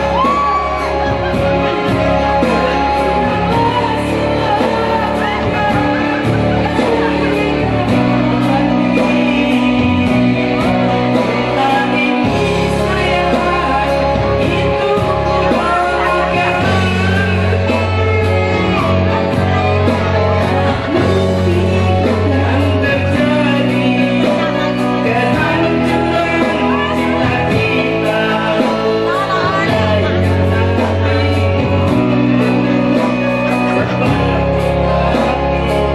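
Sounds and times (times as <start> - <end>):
amplified backing music: 0.0 - 35.9
woman singing into a microphone: 2.1 - 32.5.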